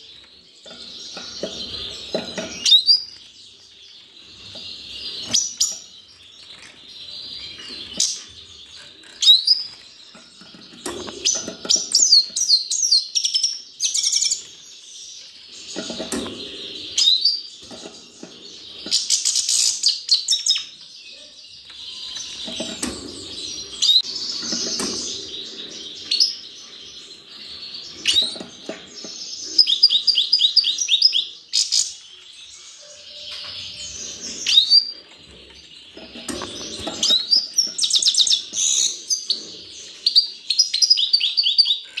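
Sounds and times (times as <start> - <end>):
finches calling and twittering: 0.0 - 42.0.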